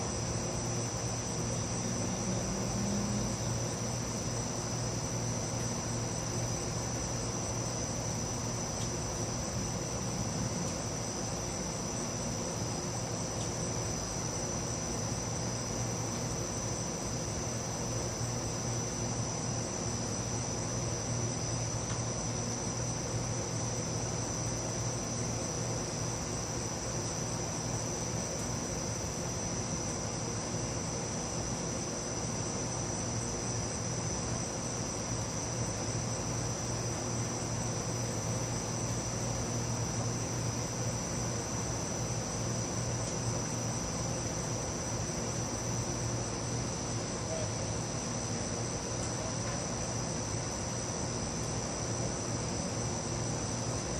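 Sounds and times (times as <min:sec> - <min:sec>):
constant low hum: 0:00.0 - 0:53.9
night insects chirping: 0:00.0 - 0:53.9.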